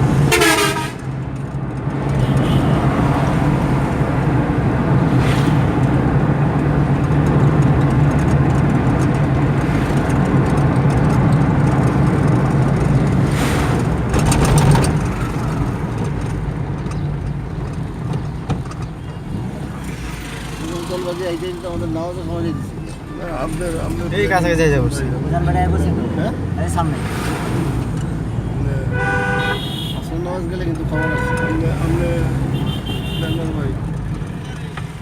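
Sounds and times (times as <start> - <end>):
car engine hum: 0.0 - 35.0
road and tyre noise: 0.0 - 35.0.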